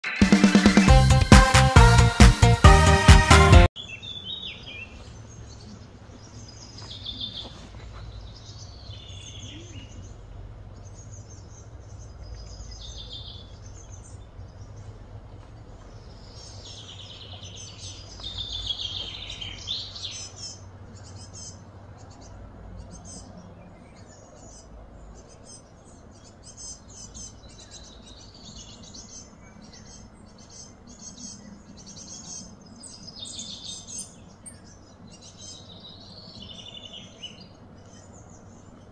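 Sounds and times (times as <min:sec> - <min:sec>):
birds chirping and calling: 0:03.8 - 0:38.9
steady low hum: 0:04.8 - 0:38.9.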